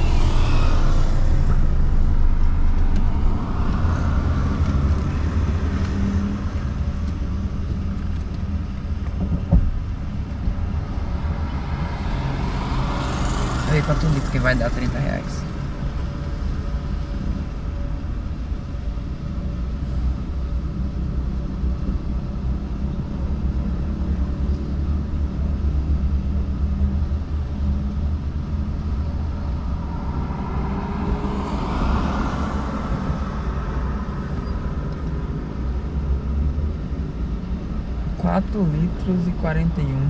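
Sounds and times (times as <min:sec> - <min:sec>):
low motor vehicle rumble: 0:00.0 - 0:40.0.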